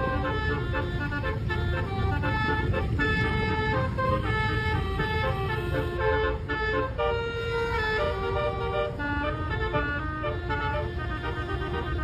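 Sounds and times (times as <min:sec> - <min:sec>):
multi-tone air horn melody: 0:00.0 - 0:12.0.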